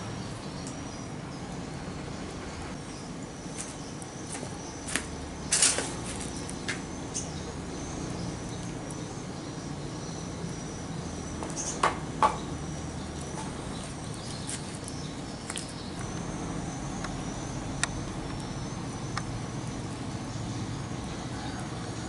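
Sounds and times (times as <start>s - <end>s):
faint high chirping calls: 0.0s - 22.0s.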